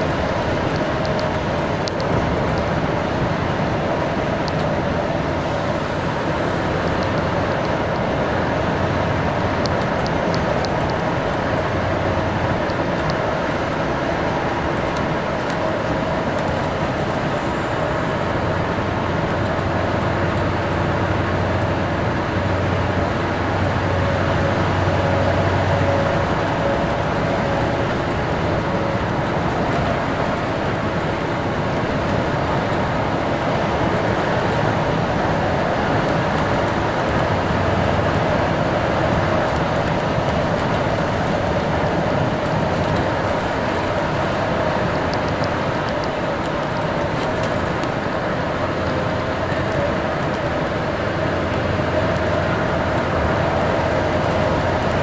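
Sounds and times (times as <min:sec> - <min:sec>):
engine hum: 0:00.0 - 0:55.0
tyre road noise: 0:00.0 - 0:55.0.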